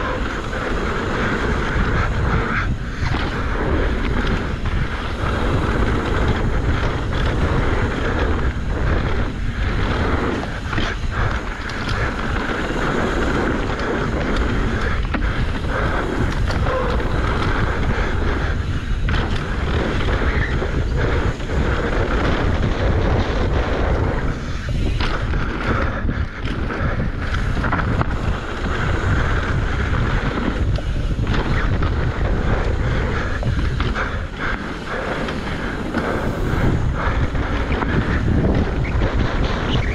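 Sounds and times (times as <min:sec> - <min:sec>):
bike frame rattling: 0:00.0 - 0:39.9
bike tyres rolling on dirt: 0:00.0 - 0:39.9
wind on microphone: 0:00.0 - 0:39.9.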